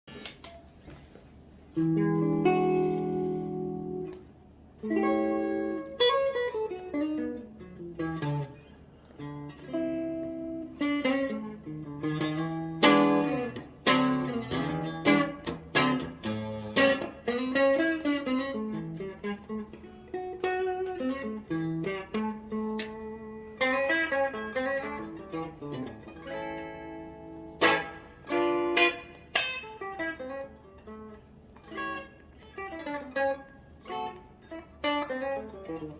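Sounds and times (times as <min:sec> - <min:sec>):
clean electric guitar playing: 0:01.7 - 0:35.9.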